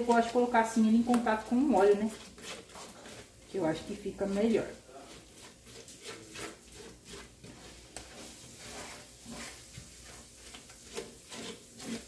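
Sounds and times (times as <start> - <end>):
spatula scraping in metal pot: 0.0 - 12.0.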